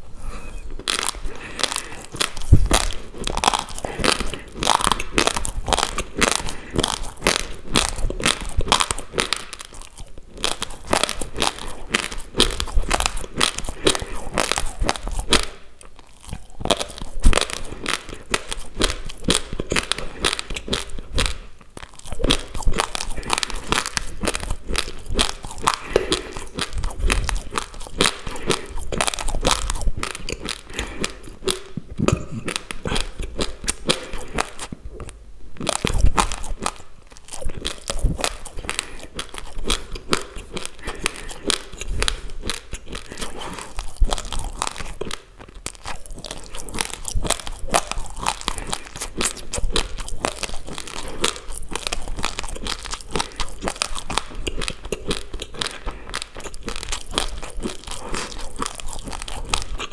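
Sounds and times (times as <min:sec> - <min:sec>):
rice grains crunching when chewed: 0:00.5 - 0:59.9.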